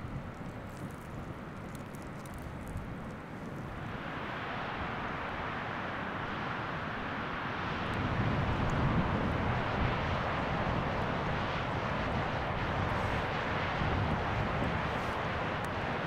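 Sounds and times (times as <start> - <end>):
stream rushing: 3.0 - 16.0.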